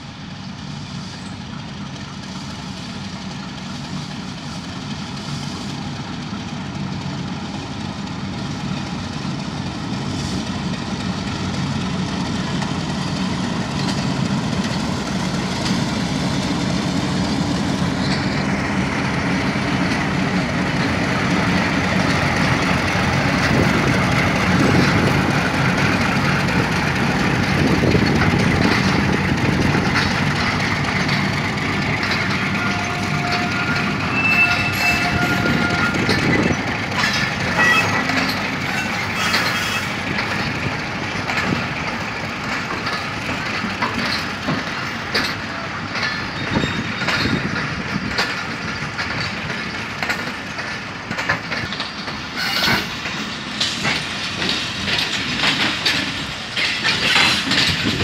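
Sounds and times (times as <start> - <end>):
diesel locomotive engine rumbling: 0.0 - 58.0
train wheels clattering over rail joints: 0.4 - 58.0.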